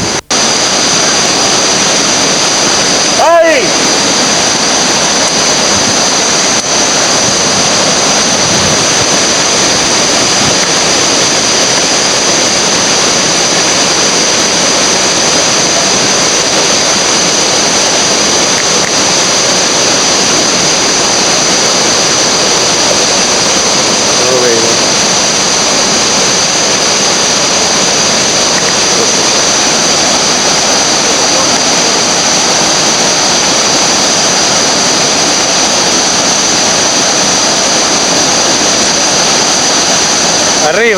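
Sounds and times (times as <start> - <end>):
river rapids rushing: 0.0 - 40.9.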